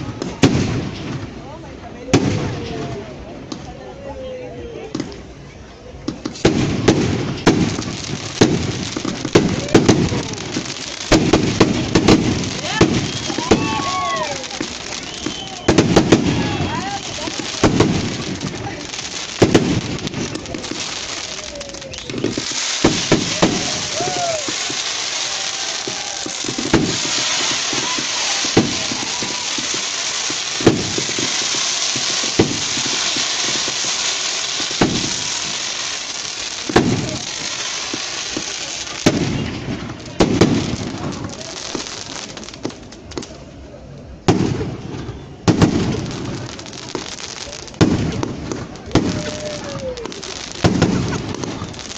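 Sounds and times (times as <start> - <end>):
firework bangs and pops: 0.0 - 3.8, 4.8 - 5.4, 6.0 - 51.9
firecrackers crackling hiss: 0.0 - 51.9.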